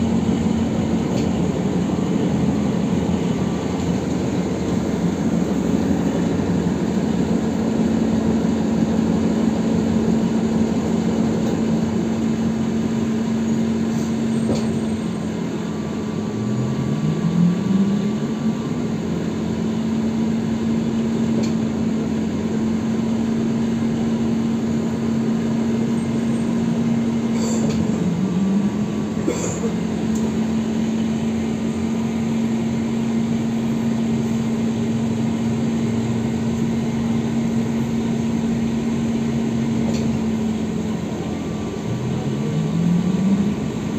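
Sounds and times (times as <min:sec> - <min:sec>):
road rumble: 0:00.0 - 0:43.9.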